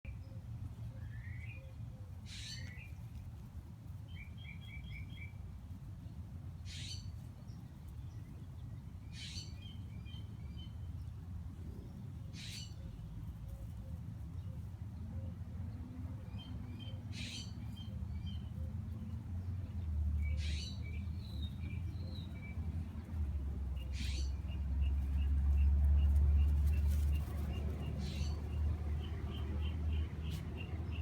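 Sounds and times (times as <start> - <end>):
birds calling and chirping: 0.1 - 3.2, 6.6 - 31.0.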